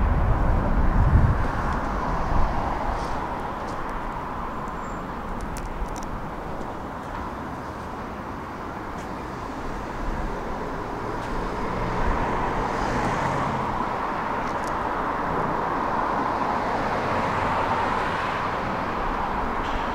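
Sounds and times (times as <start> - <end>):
tram wheels rumbling on rails: 0.0 - 19.9.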